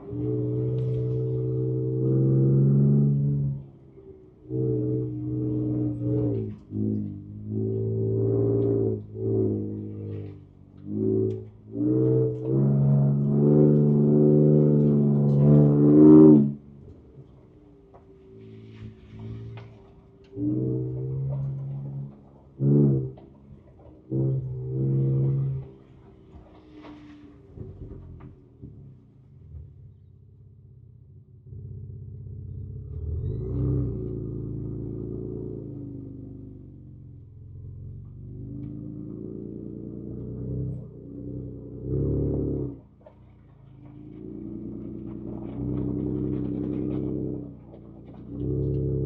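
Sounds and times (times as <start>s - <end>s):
engine revving inside car cabin: 0.0s - 17.4s, 18.0s - 26.7s, 31.4s - 43.0s, 43.8s - 49.0s.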